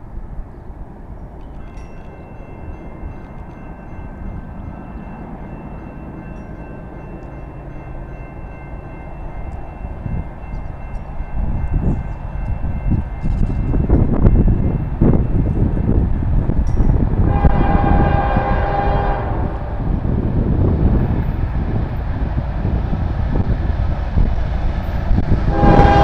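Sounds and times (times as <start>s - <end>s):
distant train rumble: 0.0s - 26.0s.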